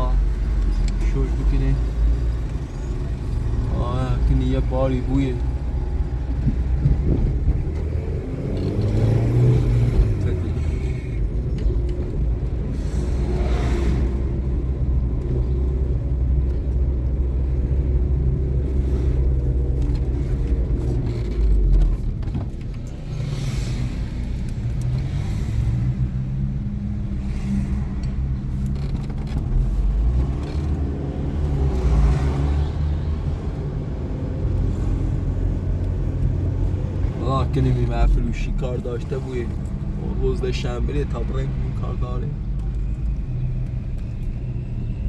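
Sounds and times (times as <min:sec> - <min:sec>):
vehicle engine rumble: 0:00.0 - 0:45.0.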